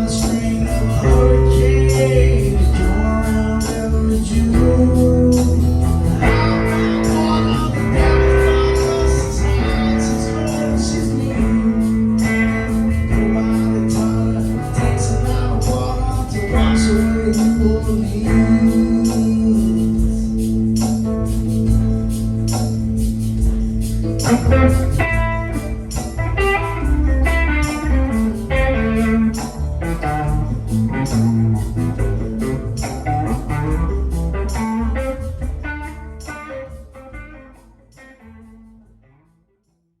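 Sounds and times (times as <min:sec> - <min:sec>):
rock band playing: 0:00.0 - 0:38.2.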